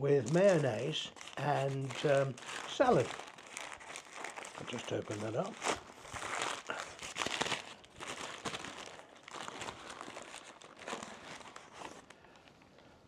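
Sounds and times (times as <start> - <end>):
food wrapping crinkling: 0.0 - 12.7.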